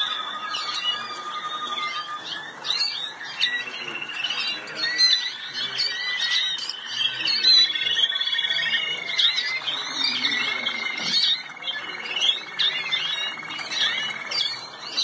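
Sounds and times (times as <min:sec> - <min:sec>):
canaries singing trills: 0:00.0 - 0:15.0.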